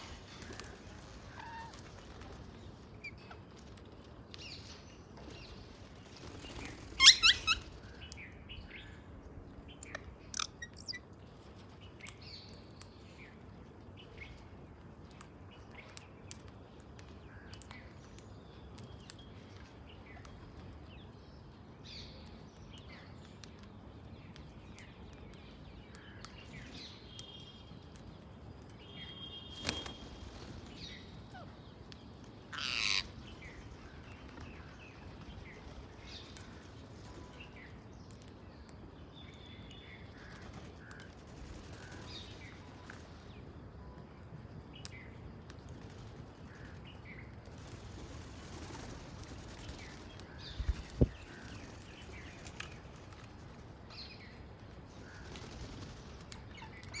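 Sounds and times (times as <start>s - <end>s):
birds chirping: 0.0s - 57.0s
soft outdoor background: 0.0s - 57.0s.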